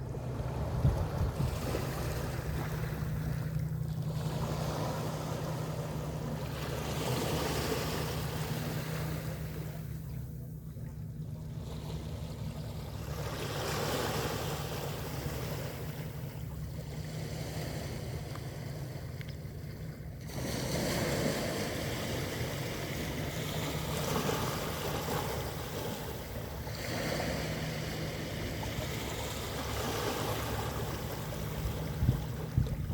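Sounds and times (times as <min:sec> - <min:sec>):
sea waves washing: 0:00.0 - 0:32.9.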